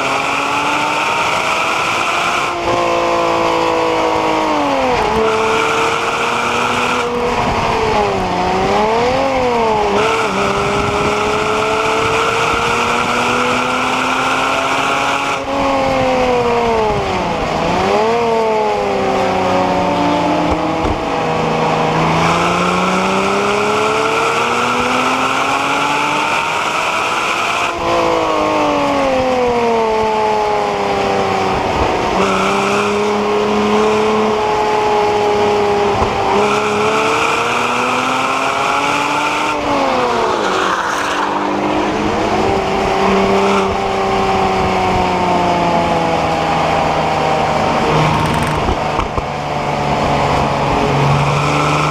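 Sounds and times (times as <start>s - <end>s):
car engine revving through gears: 0.0s - 51.9s
rev blips on downshifts: 0.0s - 51.9s.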